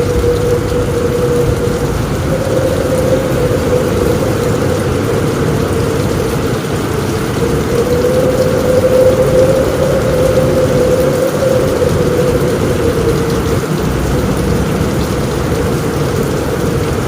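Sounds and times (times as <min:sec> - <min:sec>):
heavy rain on a roof: 0:00.0 - 0:17.0
wind whining: 0:00.0 - 0:17.0.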